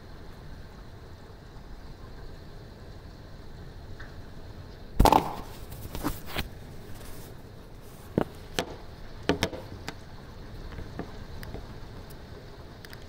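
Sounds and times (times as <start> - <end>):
steady rain: 0.0 - 5.8, 6.5 - 13.0.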